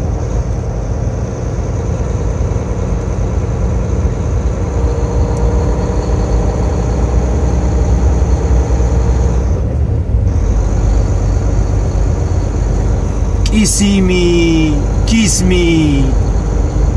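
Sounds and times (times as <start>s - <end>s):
engine and road rumble: 0.0s - 16.9s.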